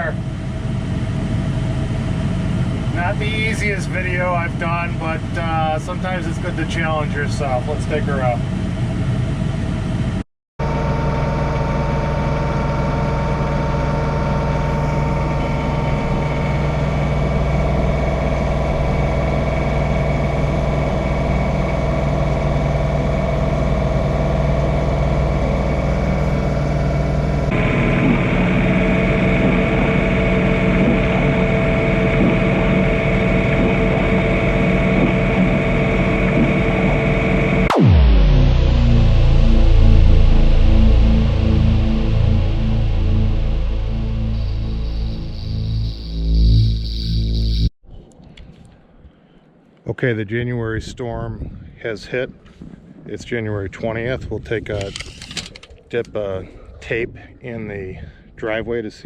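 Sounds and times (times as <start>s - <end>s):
drone propellers whining: 0.0s - 49.8s.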